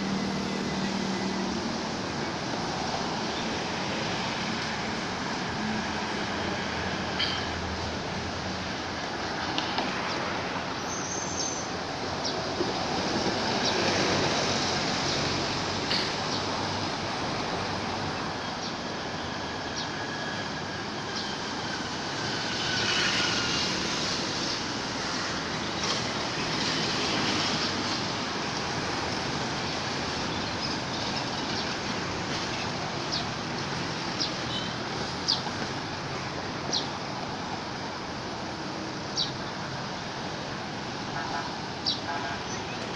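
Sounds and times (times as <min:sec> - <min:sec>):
steady outdoor hiss: 0:00.0 - 0:42.9.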